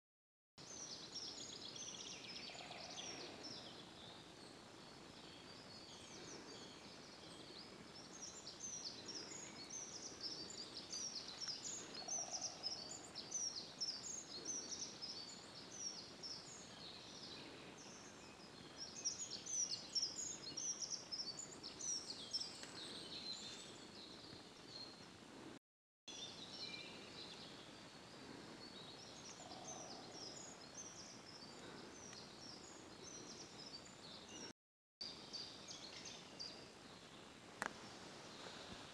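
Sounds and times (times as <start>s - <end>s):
songbirds singing: 0.6s - 38.9s.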